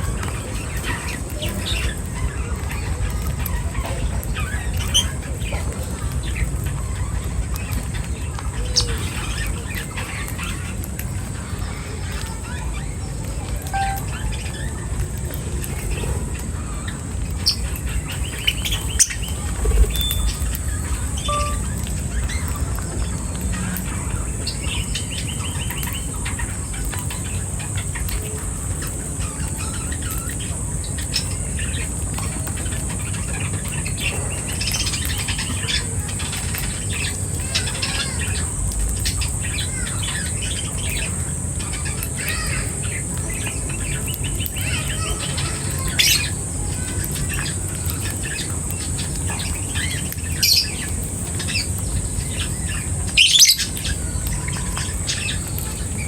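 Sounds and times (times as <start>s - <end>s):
constant high hiss: 0.0s - 56.0s
small birds chirping: 0.0s - 56.0s.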